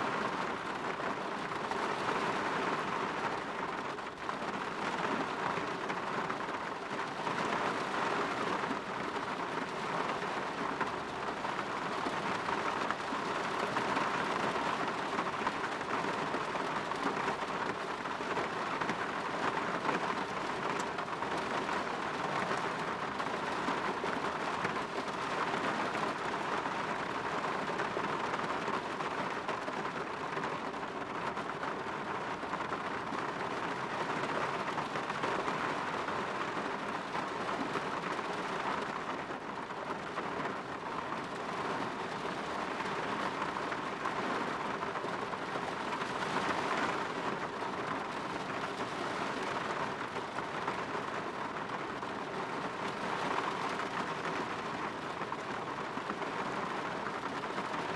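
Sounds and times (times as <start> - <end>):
rain on a window: 0.0 - 57.9.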